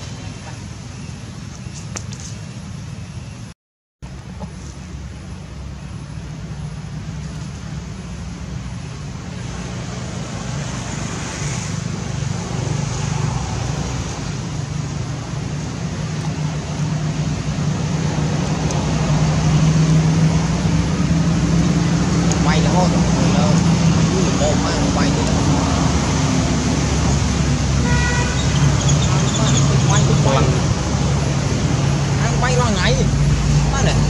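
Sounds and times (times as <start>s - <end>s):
vehicle engine hum: 0.0s - 34.0s.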